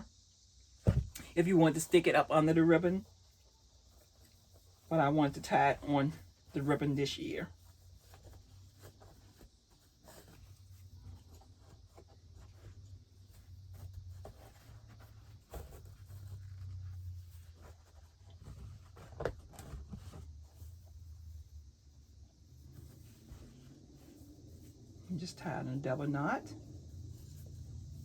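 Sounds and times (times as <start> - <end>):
low steady hum: 0.0 - 28.0
ribbon rustling: 1.0 - 28.0.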